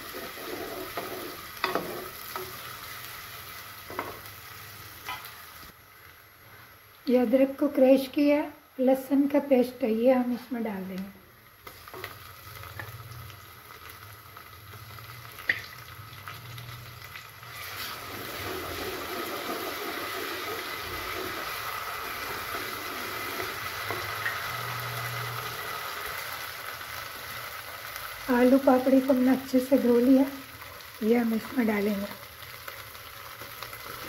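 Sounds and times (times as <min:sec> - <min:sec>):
onion sizzling in hot oil: 0:00.0 - 0:08.3, 0:09.0 - 0:34.0.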